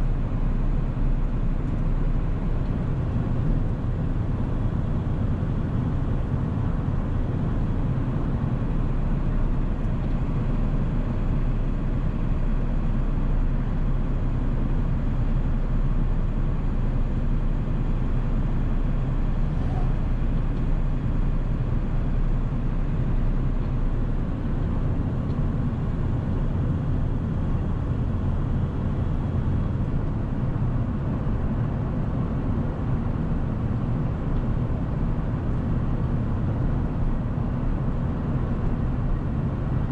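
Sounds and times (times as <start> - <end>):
diesel engine drone: 0.0 - 39.9
road noise: 0.0 - 39.9.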